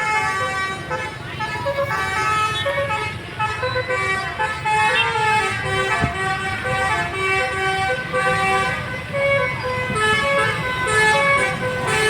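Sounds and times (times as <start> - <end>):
multi-tone air horn melody: 0.0 - 12.0.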